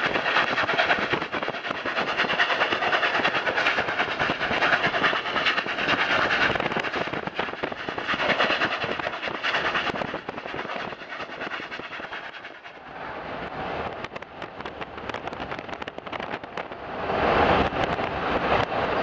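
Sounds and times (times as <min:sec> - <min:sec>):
steam locomotive running: 0:00.0 - 0:19.0.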